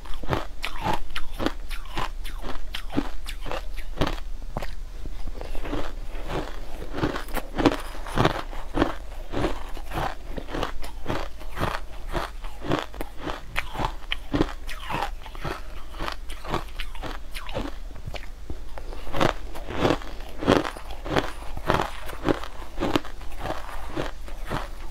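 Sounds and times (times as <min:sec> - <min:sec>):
chewing crushed ice: 0:00.0 - 0:24.9.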